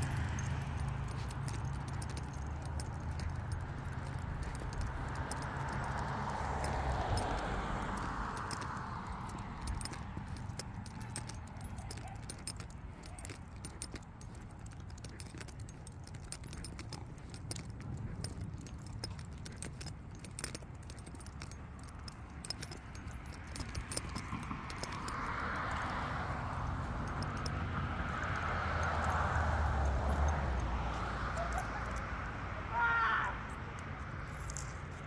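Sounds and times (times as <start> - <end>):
dog harness fittings jingling: 0.0 - 32.5, 33.4 - 35.0.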